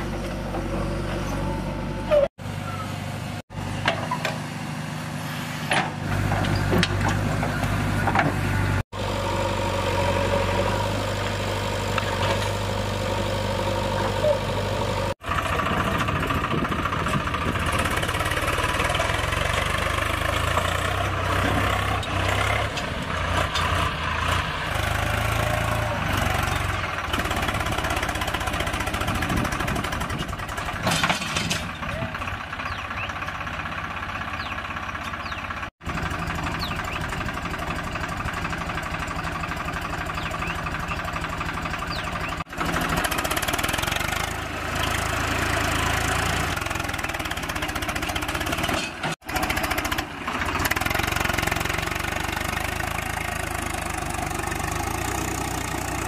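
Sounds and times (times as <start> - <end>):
backhoe loader engine: 0.0 - 56.0
tractor diesel labouring: 0.0 - 56.0.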